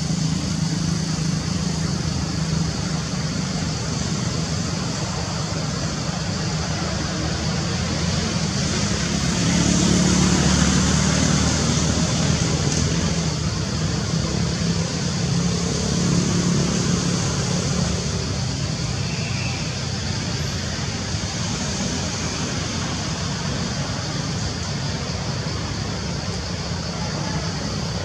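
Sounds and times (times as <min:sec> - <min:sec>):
high hiss: 0:00.0 - 0:28.0
low traffic-like rumble: 0:00.0 - 0:28.0.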